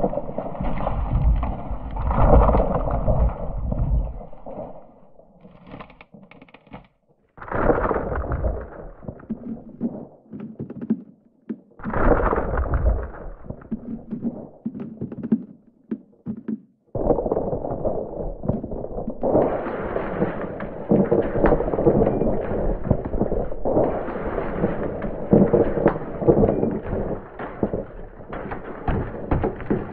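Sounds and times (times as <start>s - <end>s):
ice cracking and rumbling: 0.0s - 16.3s, 16.9s - 29.9s.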